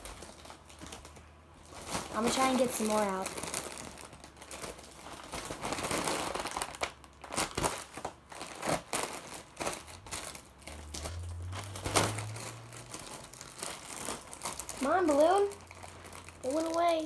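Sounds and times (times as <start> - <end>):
foil balloons crinkling: 0.0 - 17.0.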